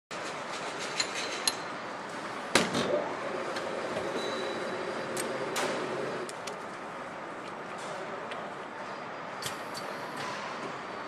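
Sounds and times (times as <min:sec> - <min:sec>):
steady background noise: 0:00.1 - 0:11.0.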